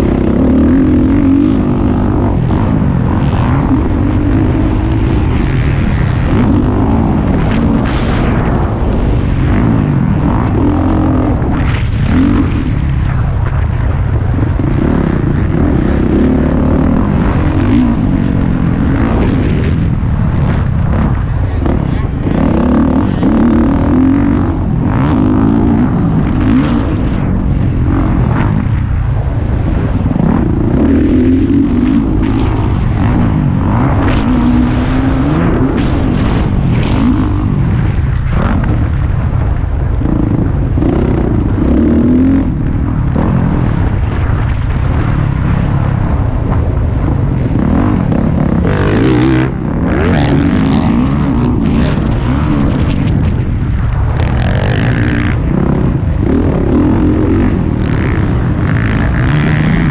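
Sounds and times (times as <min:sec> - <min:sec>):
motocross bike engine revving: 0:00.0 - 0:59.9
wind rushing over microphone: 0:00.0 - 0:59.9.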